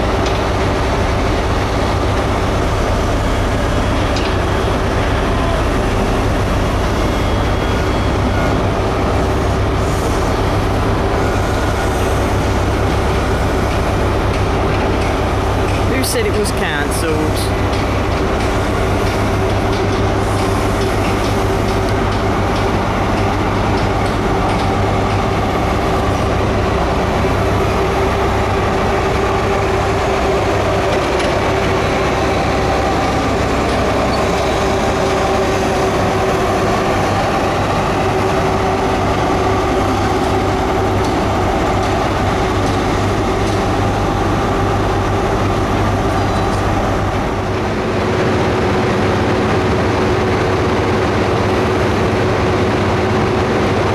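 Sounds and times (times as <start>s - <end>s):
diesel train engine running: 0.0s - 53.9s.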